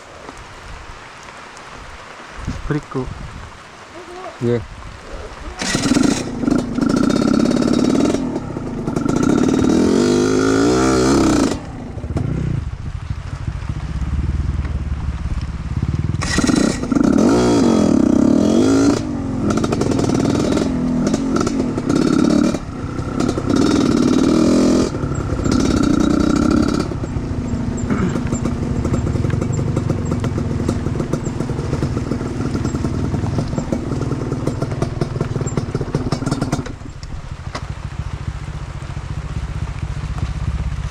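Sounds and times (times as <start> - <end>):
motorcycle engine revving: 5.3 - 40.9.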